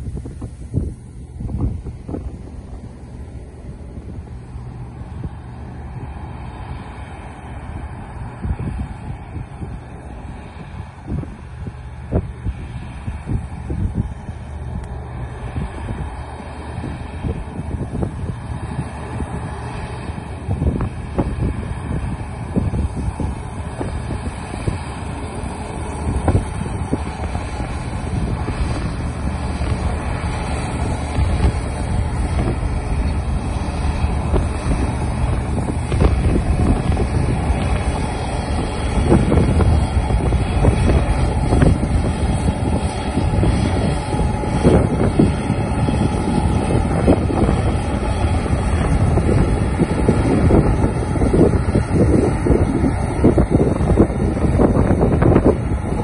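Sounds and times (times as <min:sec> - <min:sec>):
combine harvester running: 0:00.0 - 0:56.0
wind buffeting microphone: 0:00.0 - 0:56.0.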